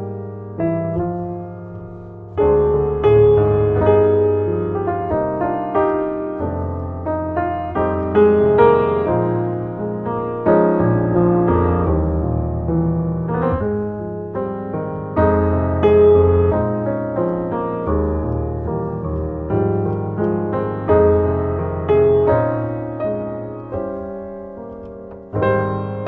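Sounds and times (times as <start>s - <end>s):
gentle piano tune: 0.0s - 26.0s.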